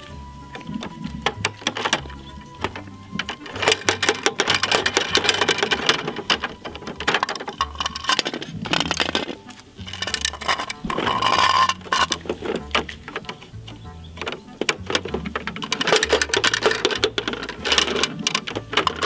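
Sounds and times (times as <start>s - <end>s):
background music with bass line: 0.0s - 19.0s
plastic gear clicking and rattling: 0.0s - 19.0s.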